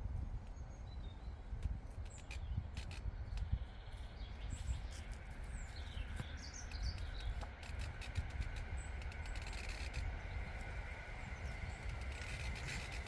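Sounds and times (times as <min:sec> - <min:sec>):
low rumble of breeze: 0:00.0 - 0:13.0.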